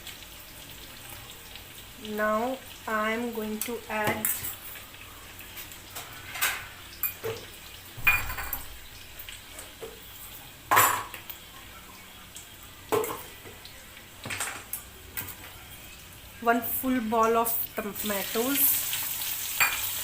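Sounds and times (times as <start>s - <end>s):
faint sizzle: 0.0s - 20.0s.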